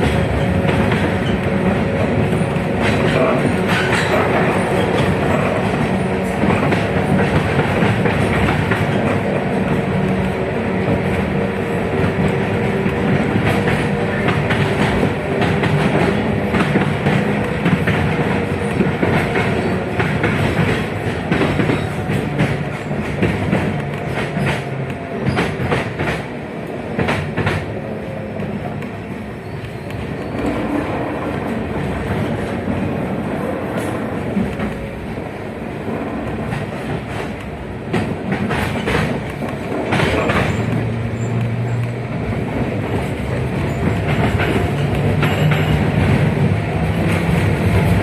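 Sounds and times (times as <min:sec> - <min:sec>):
tram rumble: 0:00.0 - 0:48.0.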